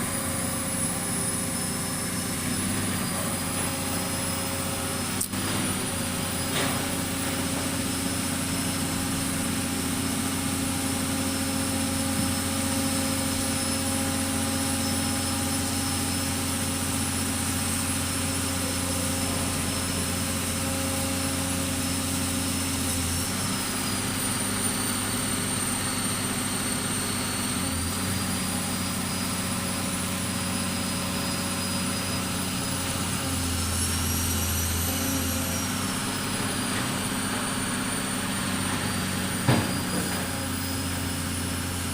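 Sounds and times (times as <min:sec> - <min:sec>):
pile driver engine running: 0:00.0 - 0:41.9.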